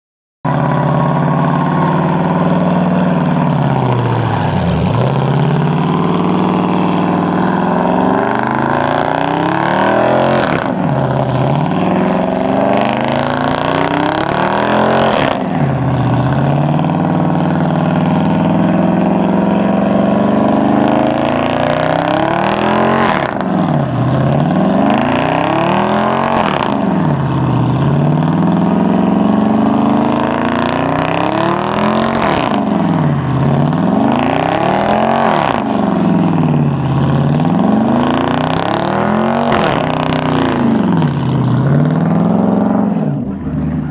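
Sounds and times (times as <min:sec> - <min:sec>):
car engine revving high: 0:00.5 - 0:43.9.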